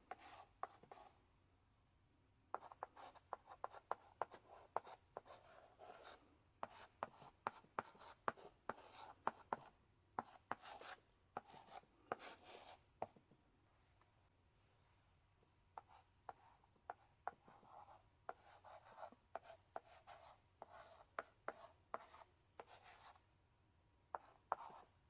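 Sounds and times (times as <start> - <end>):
chalk tapping and scratching on blackboard: 0.1 - 1.2, 2.5 - 13.2, 15.8 - 23.2, 24.1 - 25.0.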